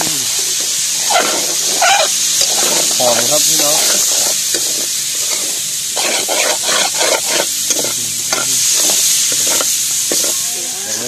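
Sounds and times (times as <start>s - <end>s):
meat sizzling in a wok: 0.0s - 11.0s
metal ladle scraping wok: 1.1s - 10.6s.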